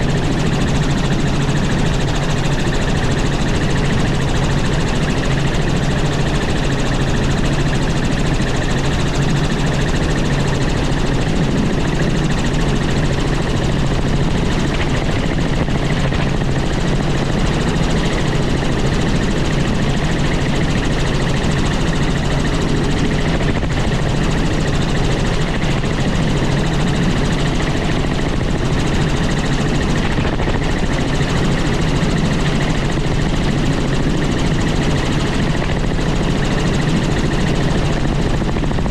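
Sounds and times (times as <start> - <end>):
helicopter rotor and turbine drone: 0.0 - 38.9.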